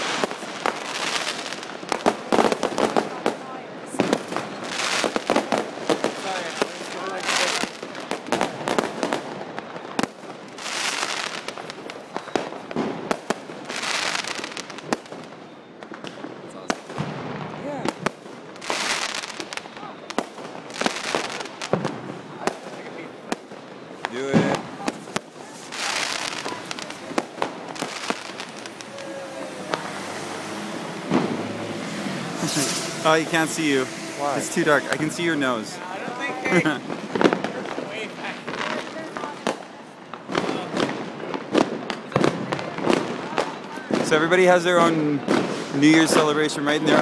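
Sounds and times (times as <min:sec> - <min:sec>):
firecracker bangs: 0:00.0 - 0:47.0
hissing crackle of fireworks: 0:00.0 - 0:47.0.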